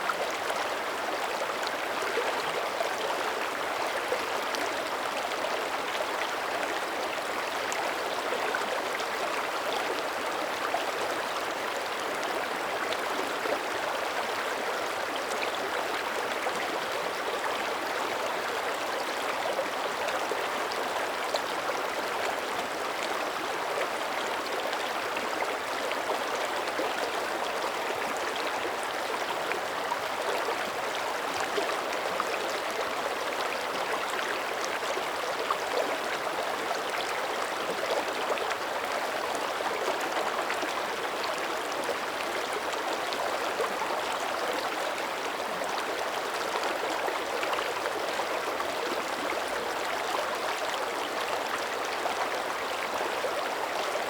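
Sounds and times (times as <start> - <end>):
creek babbling over stones: 0.0 - 54.0.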